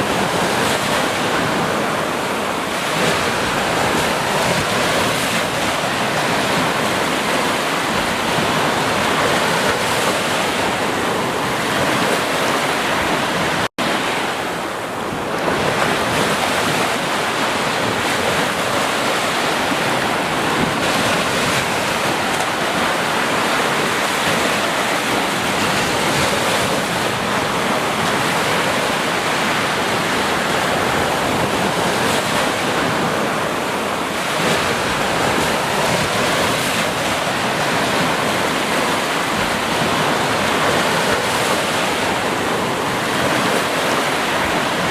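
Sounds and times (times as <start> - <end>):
ocean waves breaking: 0.0 - 44.9
wind: 0.0 - 44.9.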